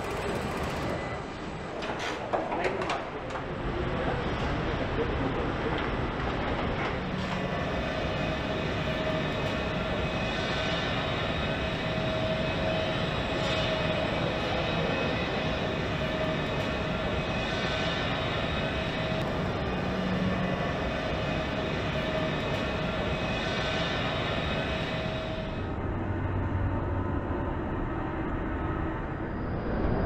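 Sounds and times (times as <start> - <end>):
factory machinery drone: 0.0 - 30.0.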